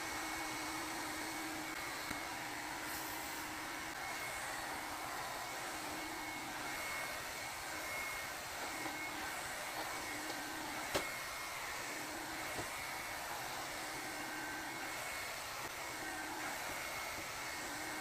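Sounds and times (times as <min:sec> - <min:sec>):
hair dryer brush blowing: 0:00.0 - 0:18.0.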